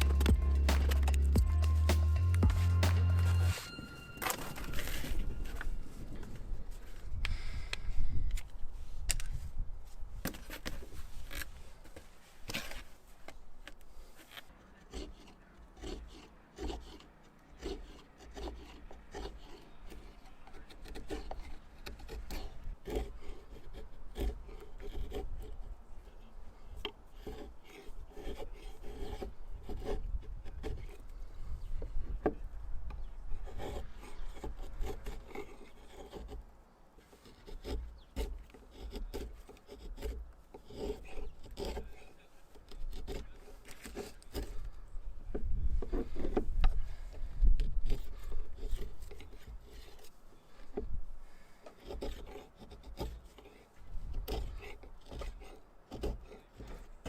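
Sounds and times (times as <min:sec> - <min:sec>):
carving blade scraping wood: 0:00.0 - 0:09.6, 0:10.2 - 0:57.0.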